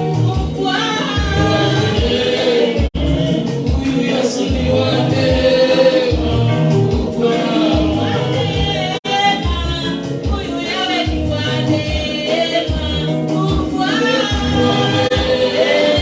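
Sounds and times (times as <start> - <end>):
band with pulsing bass line: 0.0 - 16.0
group of voices singing: 0.0 - 16.0.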